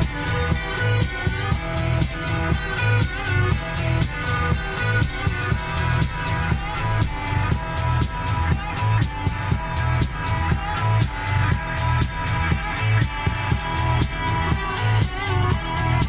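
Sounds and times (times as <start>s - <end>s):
music with guitar and drums: 0.0s - 16.0s.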